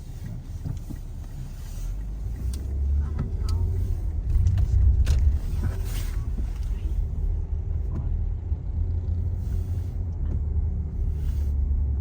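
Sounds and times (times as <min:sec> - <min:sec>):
car road noise inside cabin: 0:00.0 - 0:12.0.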